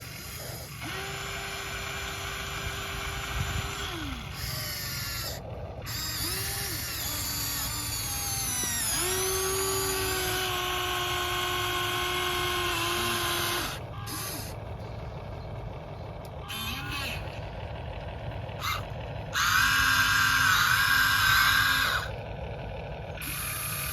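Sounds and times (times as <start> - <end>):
small electric motors whining: 0.0 - 15.3, 16.2 - 17.5, 18.5 - 22.3, 23.1 - 23.9.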